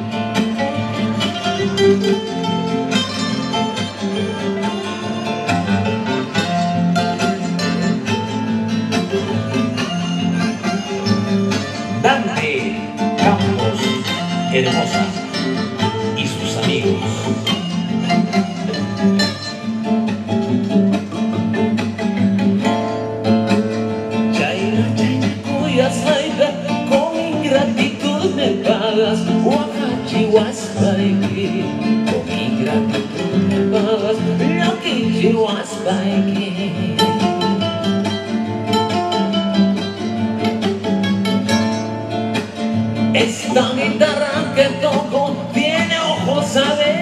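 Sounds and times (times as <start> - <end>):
lead guitar line: 0.0 - 47.0
live band playing: 0.0 - 47.0.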